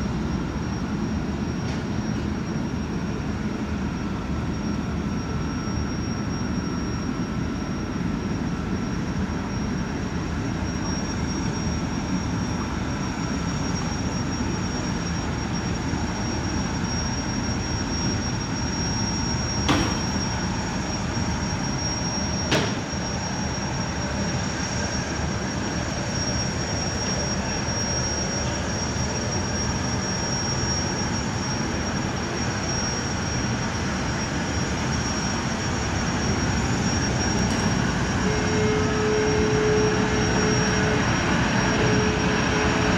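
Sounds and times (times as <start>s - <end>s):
gas turbines whining: 0.0s - 42.9s.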